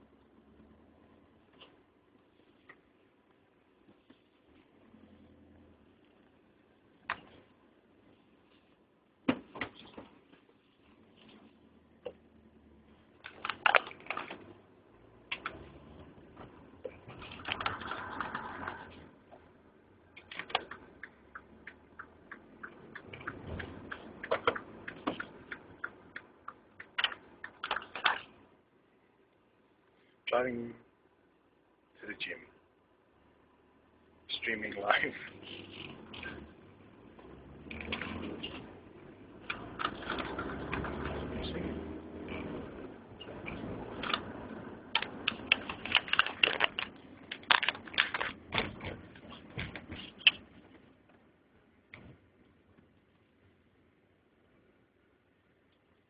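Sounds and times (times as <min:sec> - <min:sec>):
low road noise: 0:00.0 - 0:56.0.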